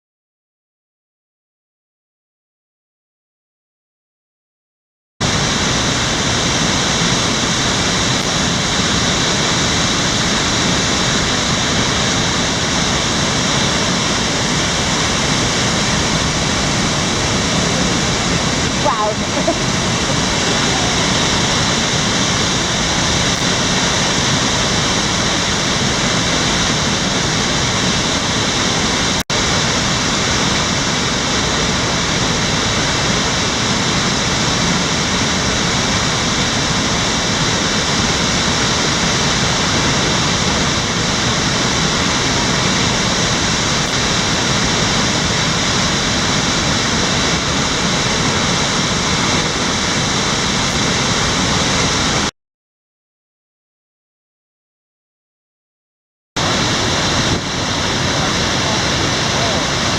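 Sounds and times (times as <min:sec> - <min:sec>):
water rushing: 0:05.2 - 0:52.3, 0:56.4 - 0:59.9.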